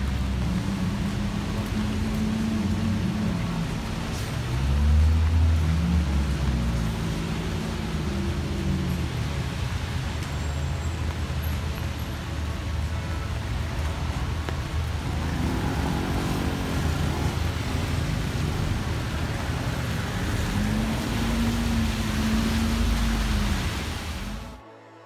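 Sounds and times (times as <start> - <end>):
cars passing on wet road: 0.0 - 24.6
heavy rain hiss: 0.0 - 24.6.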